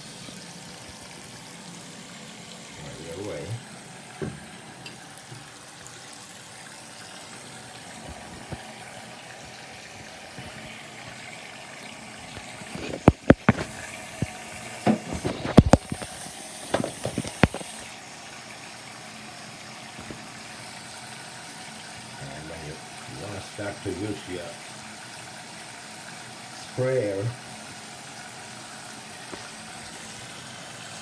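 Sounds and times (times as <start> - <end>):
water running from faucet: 0.0 - 31.0.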